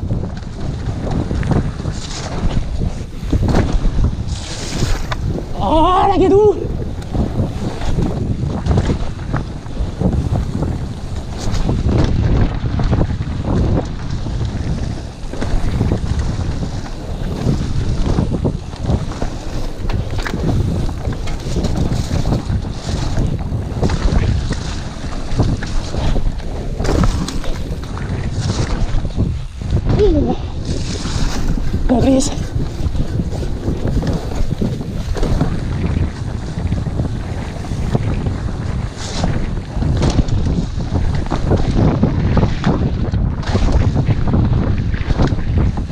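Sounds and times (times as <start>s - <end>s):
bike knocks and rattles: 0.0s - 5.5s, 6.8s - 45.9s
bike tyre rumble: 0.0s - 45.9s
wind buffeting microphone: 0.0s - 45.9s.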